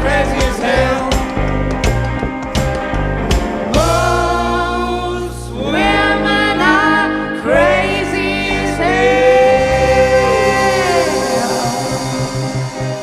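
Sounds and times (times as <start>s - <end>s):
voices singing long notes: 0.0s - 1.4s, 3.7s - 13.0s
live band playing: 0.0s - 13.0s.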